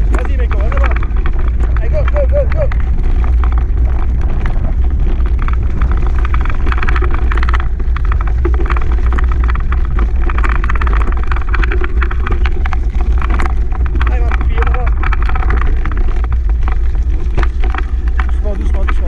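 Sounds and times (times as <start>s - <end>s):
trail rattling and crunching: 0.0s - 19.0s
wind rumble on microphone: 0.0s - 19.0s.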